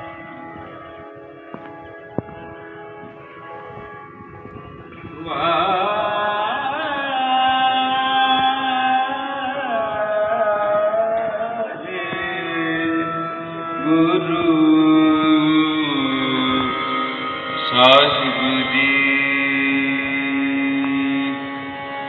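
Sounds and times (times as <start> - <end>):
steady drone: 0.0 - 22.0
person singing long sliding notes: 2.8 - 22.0.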